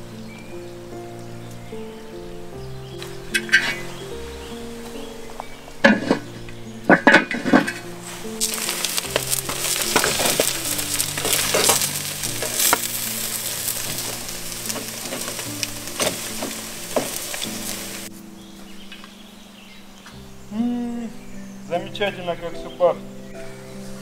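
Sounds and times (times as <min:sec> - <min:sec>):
meat sizzling over charcoal: 0:00.0 - 0:20.8
soft background music: 0:00.0 - 0:24.0.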